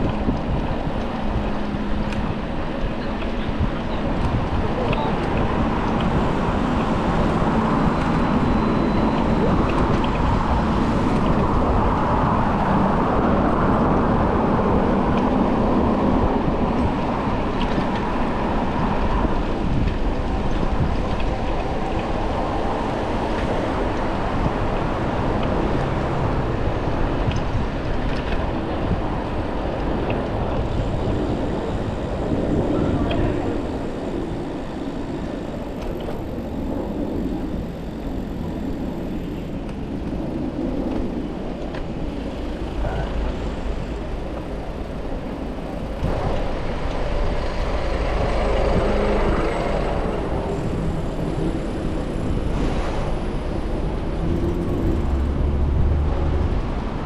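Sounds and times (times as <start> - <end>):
city road traffic: 0.0 - 57.0.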